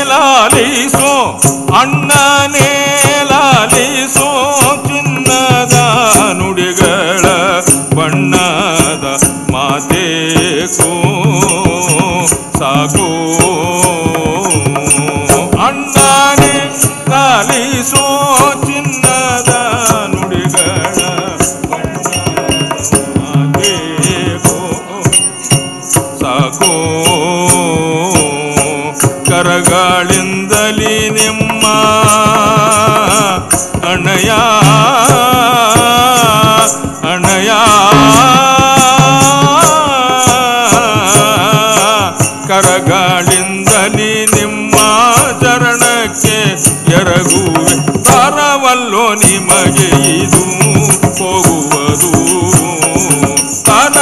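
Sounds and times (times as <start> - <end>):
fast percussive clicks: 0.0 - 54.0
person singing ornamented line: 0.0 - 54.0.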